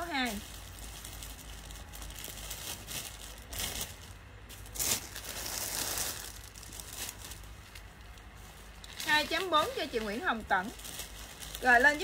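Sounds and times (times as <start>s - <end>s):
clothing fabric rustling: 0.0s - 12.0s
plastic packaging crinkling: 0.0s - 12.0s.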